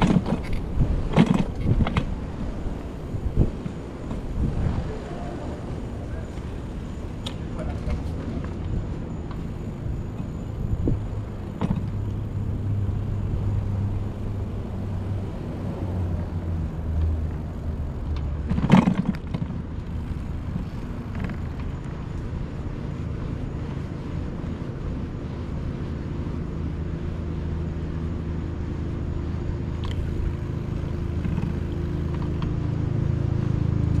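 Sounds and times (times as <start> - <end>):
bicycle riding noise: 0.0 - 34.0
traffic: 0.0 - 34.0
wind rumble: 0.0 - 34.0.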